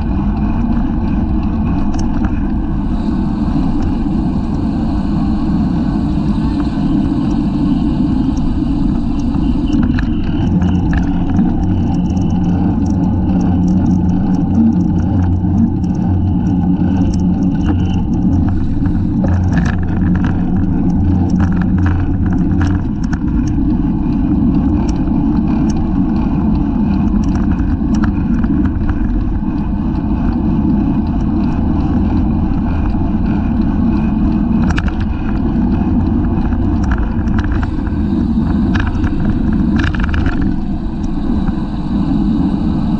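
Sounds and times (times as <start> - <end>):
bicycle clicks and rattles: 0.0 - 41.9
low hum: 0.0 - 42.9
road and tyre noise: 0.0 - 42.9
wind rushing over microphone: 0.0 - 42.9.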